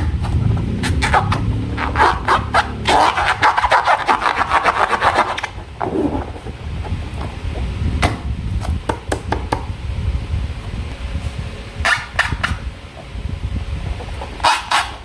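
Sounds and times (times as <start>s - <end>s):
low rumble: 0.0s - 14.5s.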